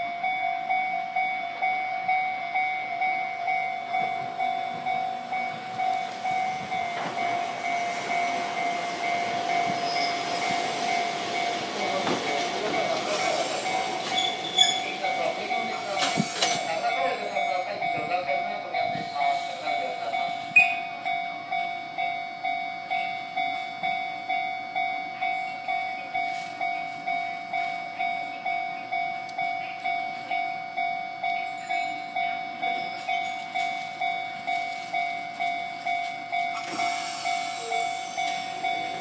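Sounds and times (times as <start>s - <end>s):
level-crossing warning bell: 0.0s - 39.0s
tram running noise: 0.0s - 39.0s.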